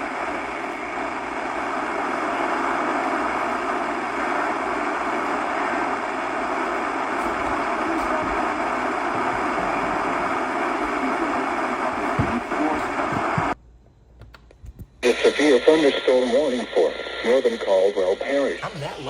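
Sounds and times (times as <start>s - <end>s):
radio static hiss: 0.0s - 13.6s, 15.0s - 19.0s.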